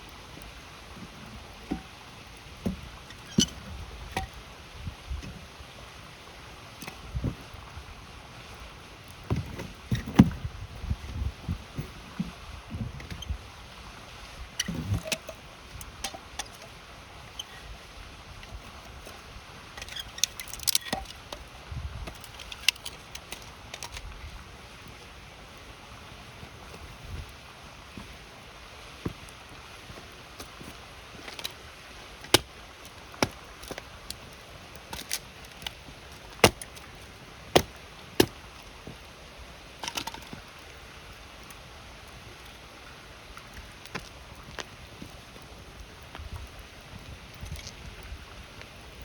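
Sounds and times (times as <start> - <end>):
wood fire crackling and popping: 0.0 - 12.3, 13.2 - 42.6
flowing river hiss: 0.0 - 49.0.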